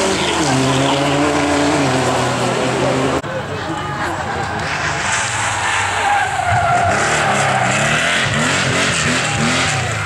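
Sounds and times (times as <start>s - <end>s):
rally car engine revving: 0.0s - 3.2s, 4.6s - 10.0s
tyres skidding: 0.0s - 10.0s.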